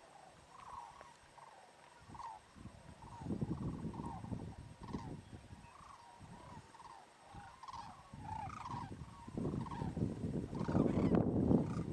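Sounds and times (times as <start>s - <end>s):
cranes calling: 0.0s - 11.9s.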